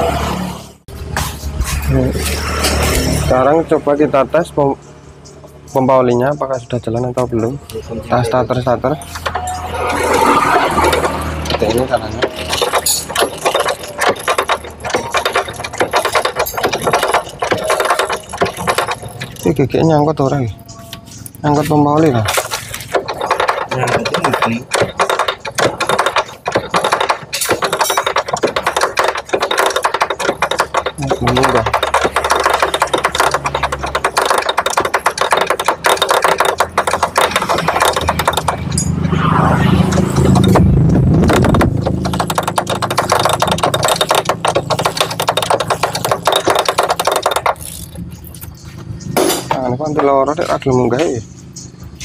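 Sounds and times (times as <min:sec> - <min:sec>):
engine kick-start ratchet clattering: 0:08.5 - 0:20.4, 0:21.2 - 0:52.0.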